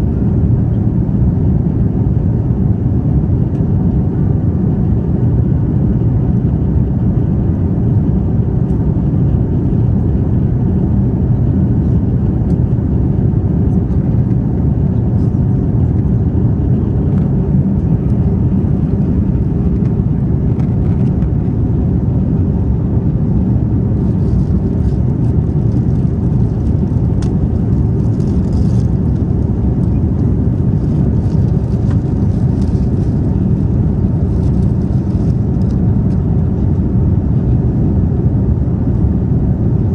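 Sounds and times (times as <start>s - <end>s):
airliner cabin engine and air noise: 0.0s - 39.9s.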